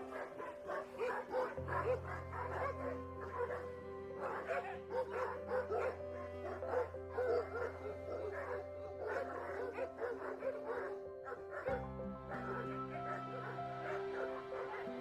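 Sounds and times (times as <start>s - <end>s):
background music: 0.0s - 15.0s
dogs fighting and barking: 0.0s - 15.0s.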